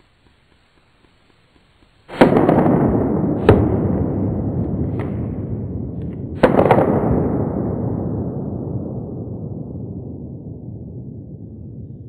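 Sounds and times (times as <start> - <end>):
gunshots with rolling echo: 2.1 - 12.0.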